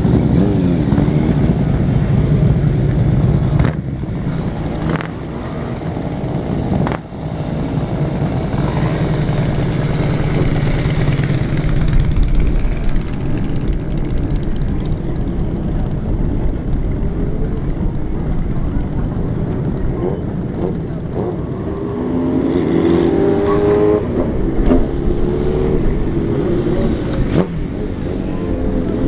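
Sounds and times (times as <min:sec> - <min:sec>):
motorcycles riding past: 0:00.0 - 0:29.0.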